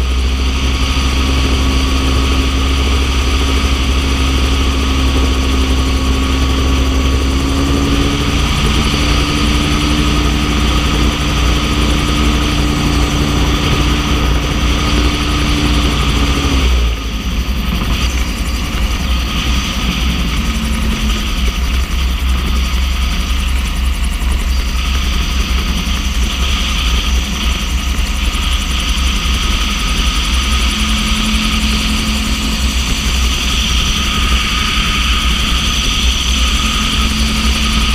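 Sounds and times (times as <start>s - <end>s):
propeller aircraft engine: 0.0s - 37.9s
wind buffeting microphone: 0.0s - 37.9s.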